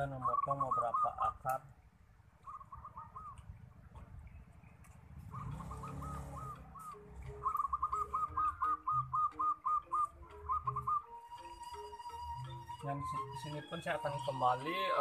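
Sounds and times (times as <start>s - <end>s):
bird whistling calls: 0.0s - 1.7s, 2.4s - 3.7s, 5.3s - 15.0s.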